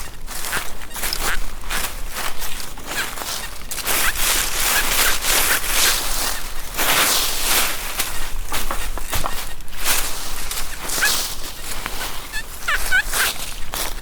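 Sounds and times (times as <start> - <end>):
dry leaves rustling and crunching: 0.0 - 14.0.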